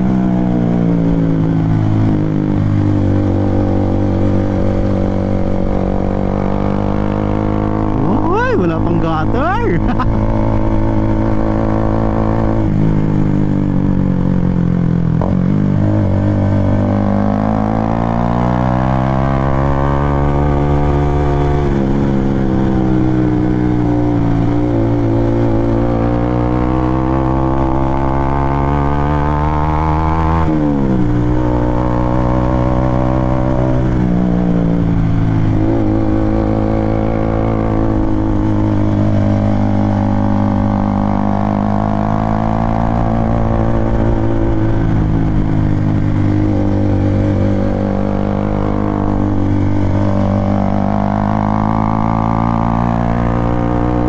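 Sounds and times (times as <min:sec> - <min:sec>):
motorcycle engine revving: 0:00.0 - 0:08.5, 0:09.1 - 0:54.0.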